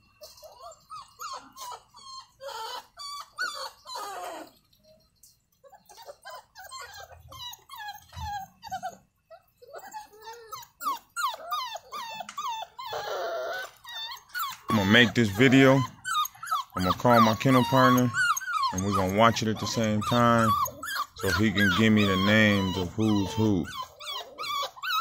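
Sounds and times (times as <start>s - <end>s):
puppies whining and yipping: 0.0s - 25.0s.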